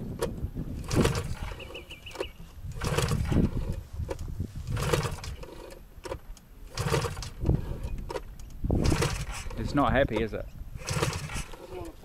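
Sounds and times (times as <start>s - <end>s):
engine turning over on recoil pull: 0.0s - 12.0s.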